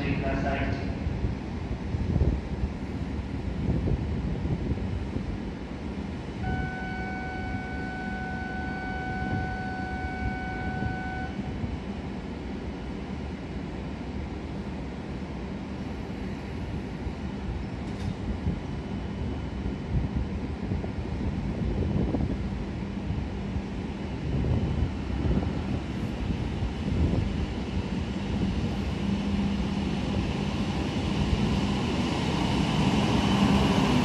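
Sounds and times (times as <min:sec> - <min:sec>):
train equipment humming: 0:00.0 - 0:34.0.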